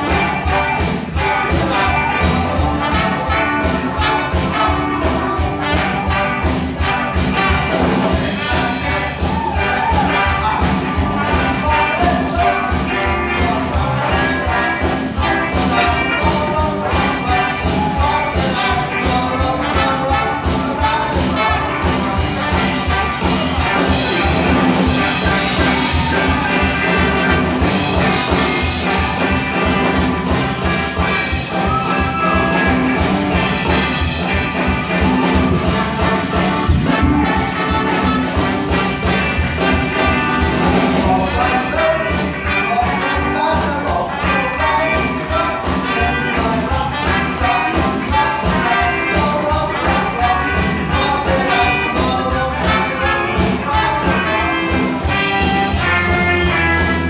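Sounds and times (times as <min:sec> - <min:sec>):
drum kit fast beat: 0:00.0 - 0:57.0
electric guitars: 0:00.0 - 0:57.0
horns playing: 0:00.0 - 0:57.0
live rock and roll band: 0:00.0 - 0:57.0.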